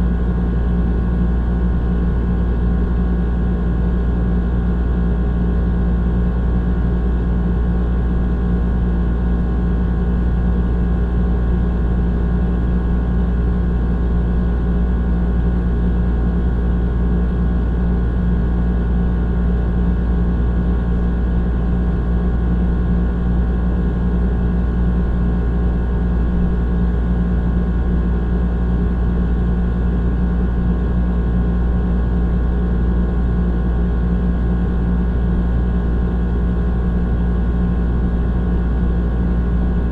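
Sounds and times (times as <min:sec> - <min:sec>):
air conditioner droning: 0:00.0 - 0:39.9.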